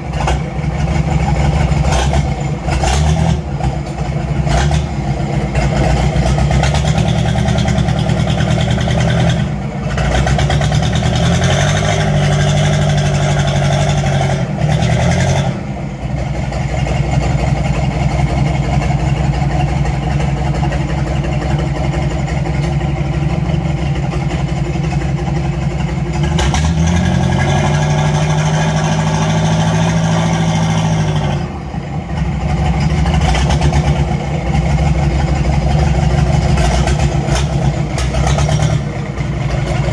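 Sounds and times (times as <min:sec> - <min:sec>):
diesel boat engine revving: 0:00.0 - 0:39.9.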